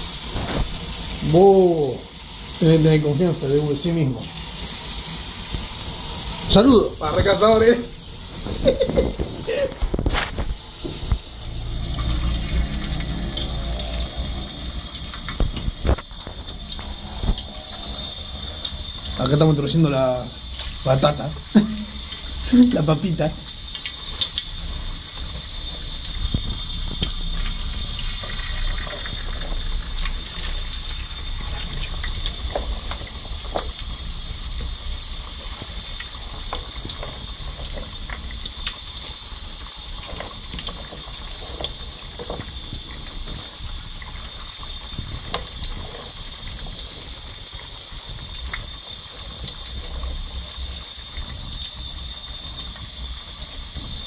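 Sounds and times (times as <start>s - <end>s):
potatoes deep-frying in oil: 0.0s - 54.0s.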